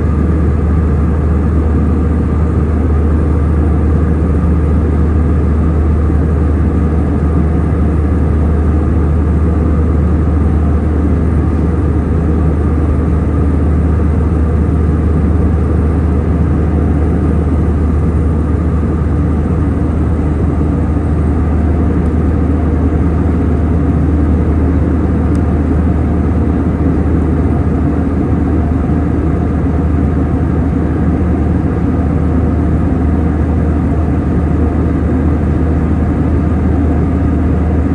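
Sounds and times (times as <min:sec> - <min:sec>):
airliner cabin drone: 0:00.0 - 0:37.9.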